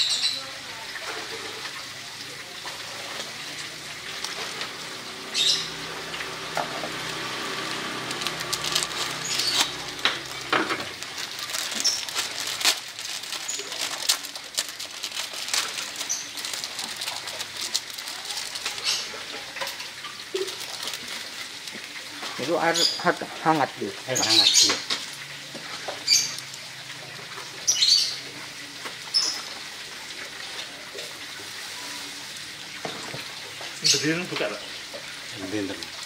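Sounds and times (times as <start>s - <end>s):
water bubbling and sizzling in wok: 0.0s - 36.0s.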